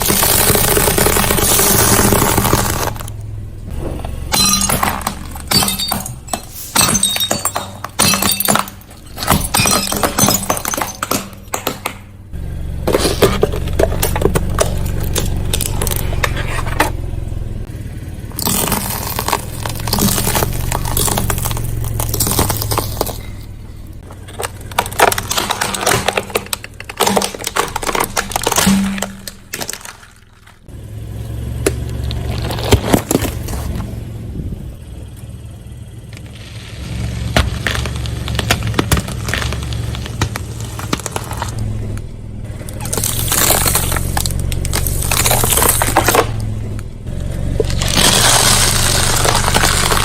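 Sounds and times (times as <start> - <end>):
objects crunching under car tyres: 0.0 - 50.0
low rumble: 0.3 - 50.0.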